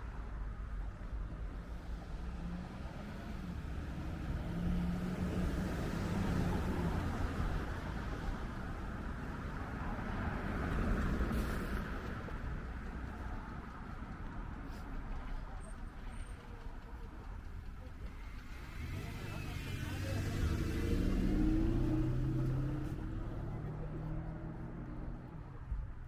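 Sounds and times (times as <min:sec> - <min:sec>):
cars passing: 0:00.8 - 0:26.0.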